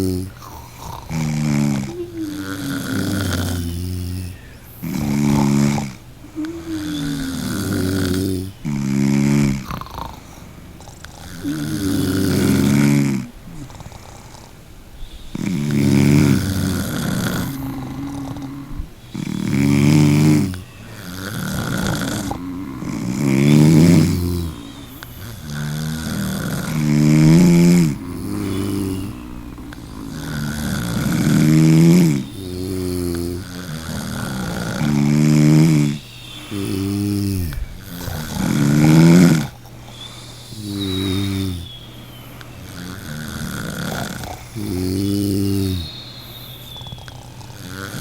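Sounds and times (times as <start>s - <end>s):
person snoring: 0.0s - 48.0s.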